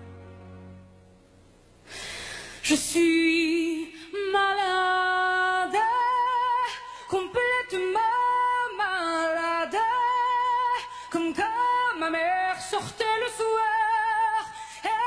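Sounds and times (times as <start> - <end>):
woman singing ballad: 2.5 - 15.0.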